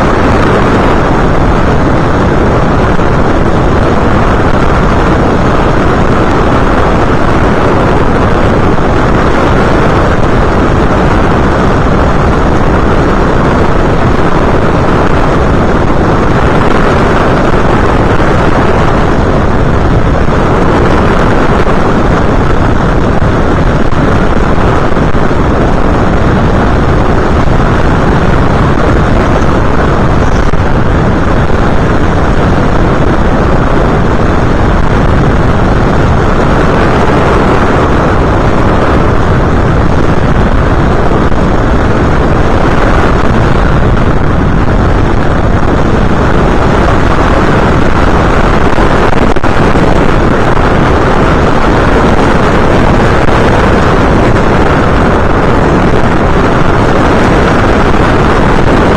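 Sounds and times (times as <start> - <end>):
motor and propeller noise: 0.0 - 58.9
wind rushing over microphone: 0.0 - 58.9.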